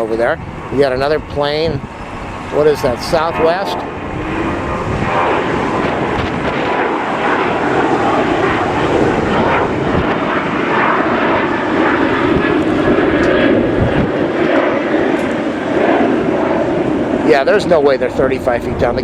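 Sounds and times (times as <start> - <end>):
airliner engines flying over: 0.0 - 19.0.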